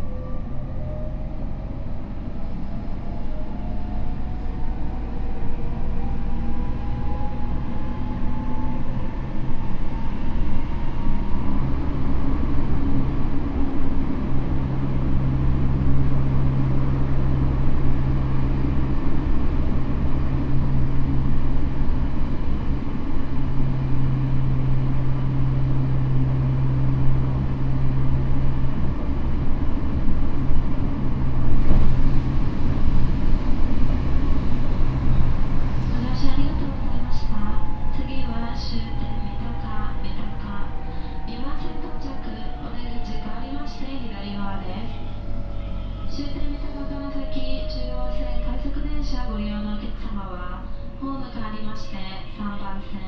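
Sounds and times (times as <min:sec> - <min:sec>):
wheel on rail rumble: 0:00.0 - 0:53.0.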